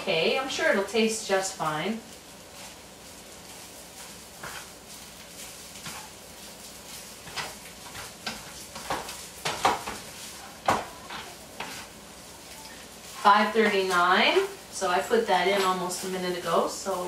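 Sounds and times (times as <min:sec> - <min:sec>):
utensil stirring rice in pan: 0:00.0 - 0:17.0.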